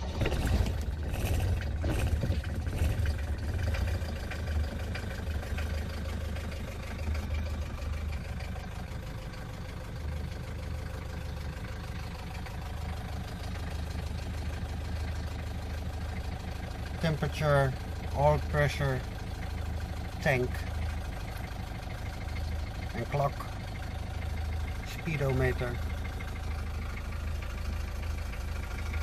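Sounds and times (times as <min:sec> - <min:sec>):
diesel engine starting and idling: 0:00.0 - 0:29.0.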